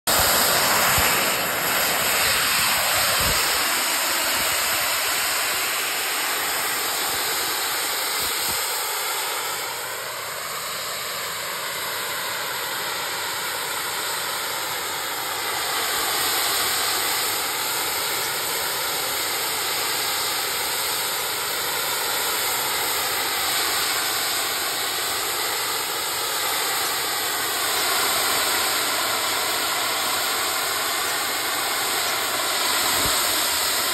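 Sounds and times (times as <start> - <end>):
jet engines hissing and whining: 0.0 - 33.9.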